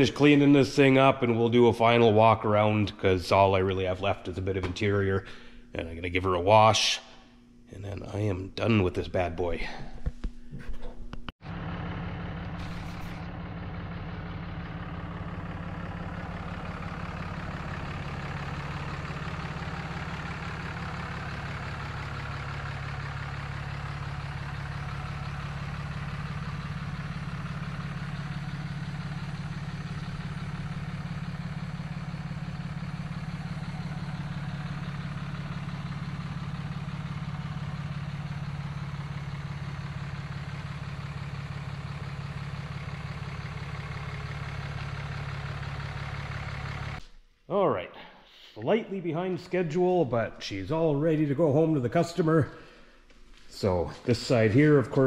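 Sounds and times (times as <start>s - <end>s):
diesel engine idling: 0.0s - 6.7s, 11.4s - 47.0s, 48.7s - 55.0s.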